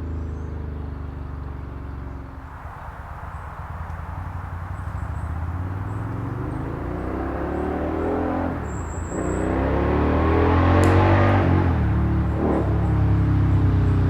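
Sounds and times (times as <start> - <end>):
motorcycle engine accelerating: 2.4 - 14.0.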